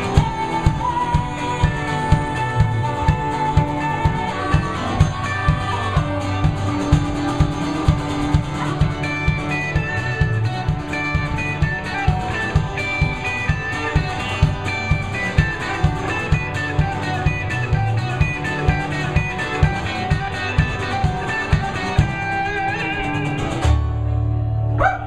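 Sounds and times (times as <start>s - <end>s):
steady kick drum: 0.0s - 22.5s
small plucked instrument: 0.0s - 24.7s
electric guitar: 0.0s - 25.0s
strummed acoustic guitar: 0.0s - 25.0s
upright bass: 0.0s - 25.0s.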